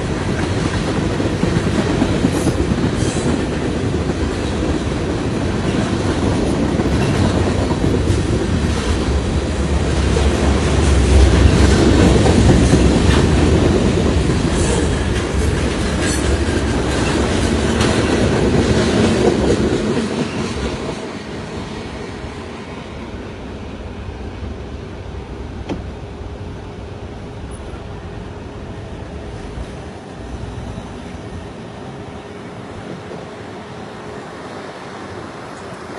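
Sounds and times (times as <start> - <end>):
freight train wheels rumbling: 0.0 - 35.9.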